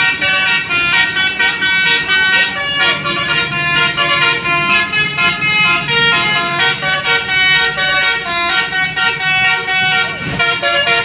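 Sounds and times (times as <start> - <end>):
musical vehicle horn melody: 0.0 - 11.0.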